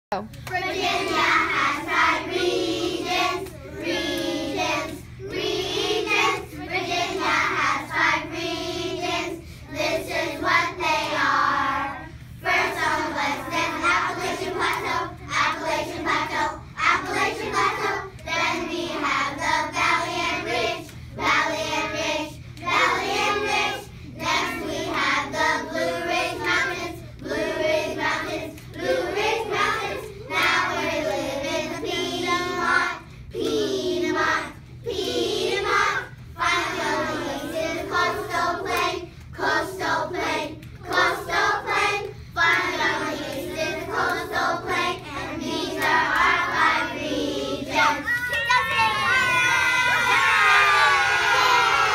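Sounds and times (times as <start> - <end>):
young children singing: 0.5 - 51.9.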